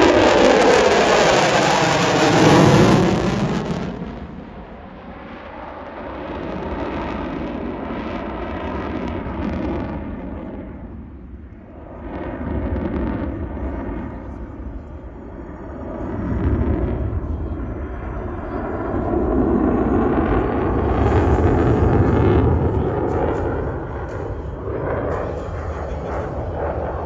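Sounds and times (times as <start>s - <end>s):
fighter jet passing with whoosh: 0.0s - 14.6s, 15.8s - 27.0s
distant jet rumble: 0.0s - 27.0s.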